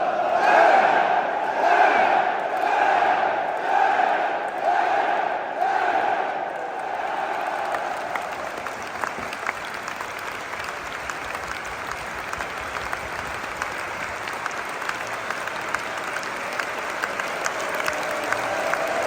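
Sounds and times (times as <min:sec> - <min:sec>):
crowd clapping: 0:00.0 - 0:19.0.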